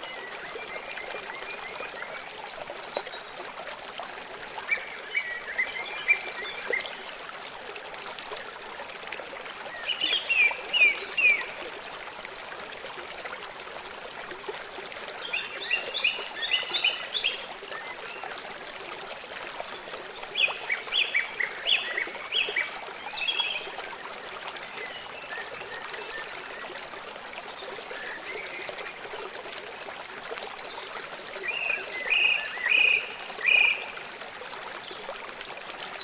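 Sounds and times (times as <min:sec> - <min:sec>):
stream running: 0:00.0 - 0:36.0.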